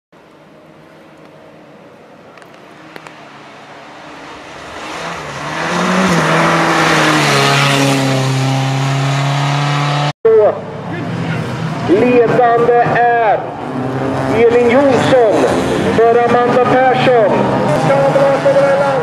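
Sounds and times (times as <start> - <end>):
rally car engine approaching: 0.2 - 19.0.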